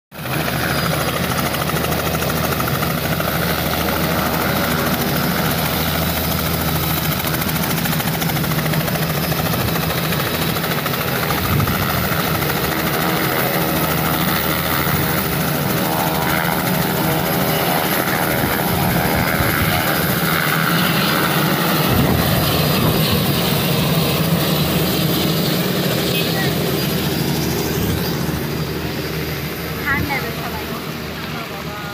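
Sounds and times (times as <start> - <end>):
helicopter engine and rotor: 0.1 - 31.9.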